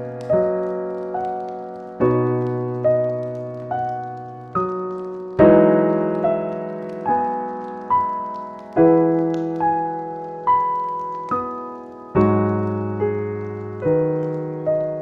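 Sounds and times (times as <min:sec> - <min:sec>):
faint fireplace crackles: 0:00.0 - 0:15.0
slow gentle solo piano: 0:00.0 - 0:15.0.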